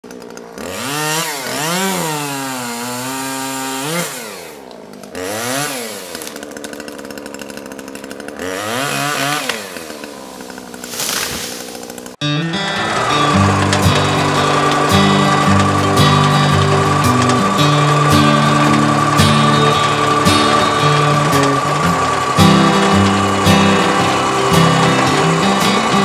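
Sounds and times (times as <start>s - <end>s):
chainsaw revving and idling: 0.0s - 26.0s.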